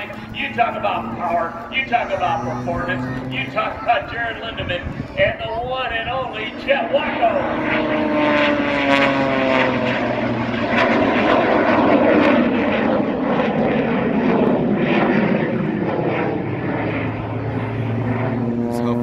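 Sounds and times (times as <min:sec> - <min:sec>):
biplane engine running: 0:00.0 - 0:19.0.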